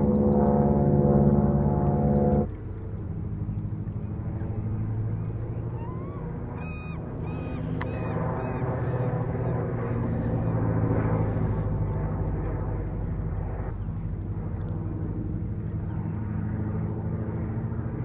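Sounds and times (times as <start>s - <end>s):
airplane engine hum overhead: 0.0s - 18.0s.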